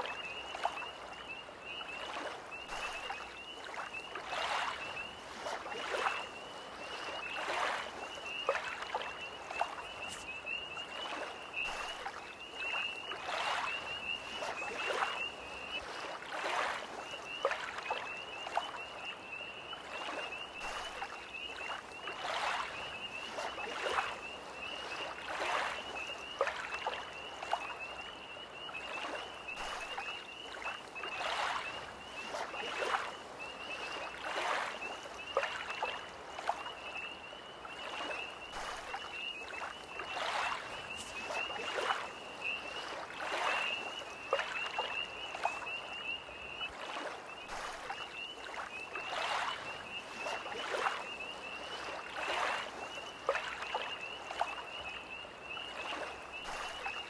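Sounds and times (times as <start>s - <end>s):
tree frogs trilling: 0.0s - 57.0s
waves lapping against shore: 0.0s - 57.0s.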